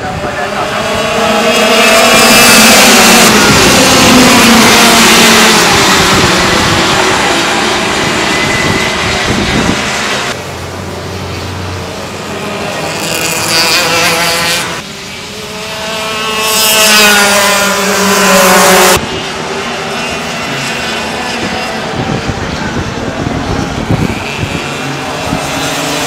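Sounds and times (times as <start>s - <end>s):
kart engines buzzing past: 0.0s - 26.0s.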